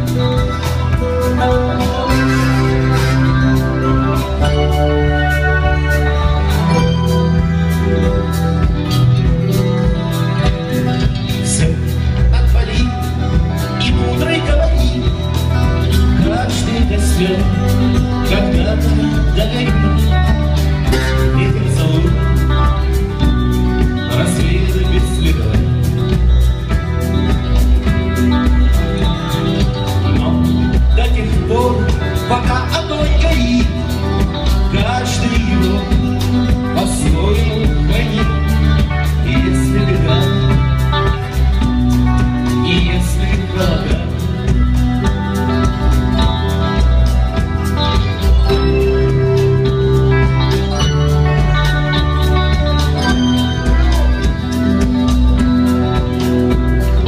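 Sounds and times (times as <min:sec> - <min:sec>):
person singing: 0:00.0 - 0:26.2, 0:29.0 - 0:57.0
bass notes: 0:00.0 - 0:57.0
guitar: 0:00.0 - 0:57.0
drum beat: 0:07.4 - 0:57.0.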